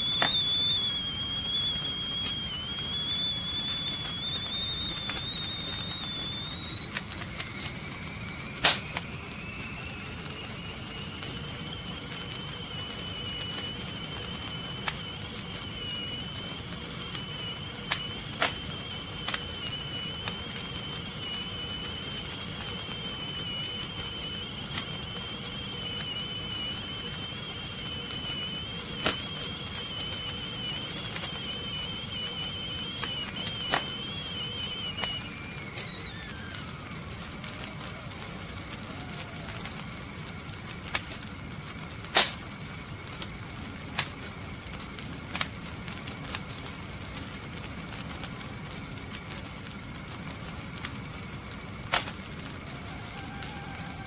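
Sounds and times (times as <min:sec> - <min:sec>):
sharp pops: 0:00.0 - 0:47.3, 0:50.8 - 0:52.4
gas flame rushing: 0:00.0 - 0:54.0
kettle whistling: 0:00.0 - 0:54.0.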